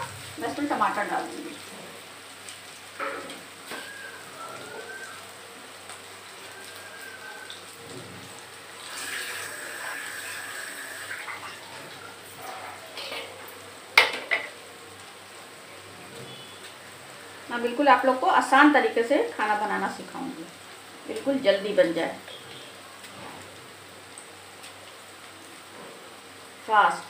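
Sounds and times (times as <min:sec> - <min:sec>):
onions sizzling in oil: 0:00.0 - 0:27.0.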